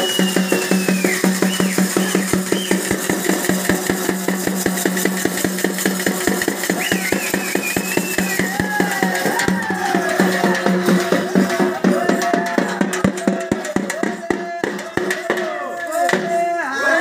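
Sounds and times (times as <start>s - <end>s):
rapid barrel drum beats: 0.0s - 16.6s.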